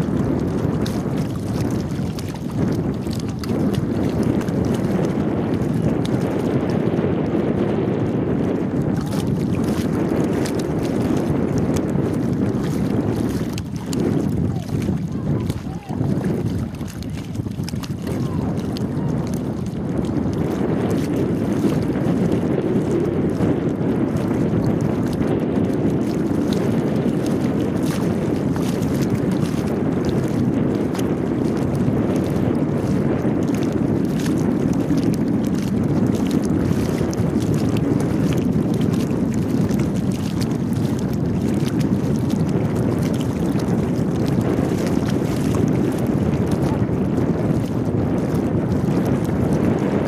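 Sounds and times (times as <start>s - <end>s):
wind on microphone: 0.0s - 50.0s.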